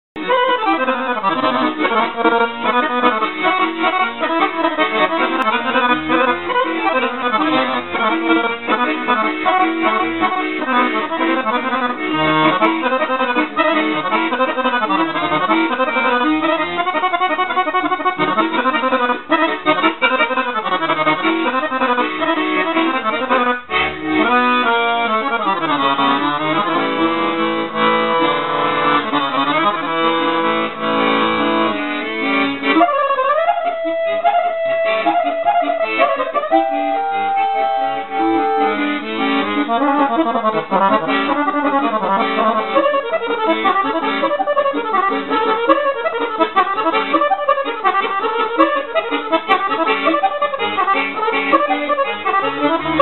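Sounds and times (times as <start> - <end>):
accordion melody: 0.2 - 53.0.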